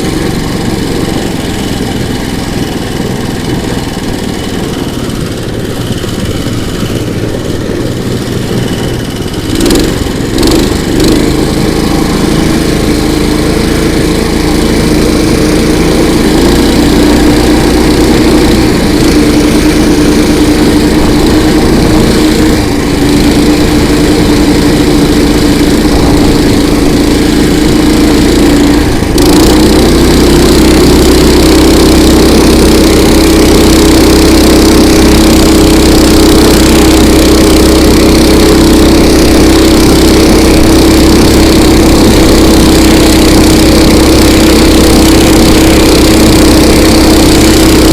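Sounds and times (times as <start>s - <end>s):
petrol engine running: 0.0s - 47.9s.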